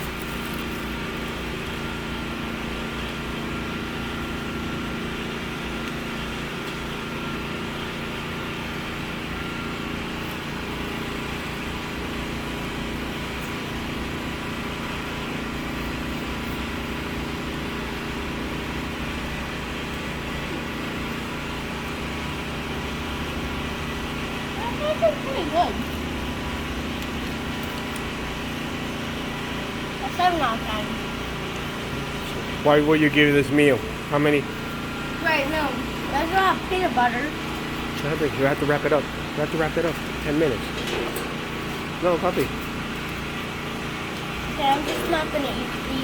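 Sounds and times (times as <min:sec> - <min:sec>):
small engine humming: 0:00.0 - 0:46.0.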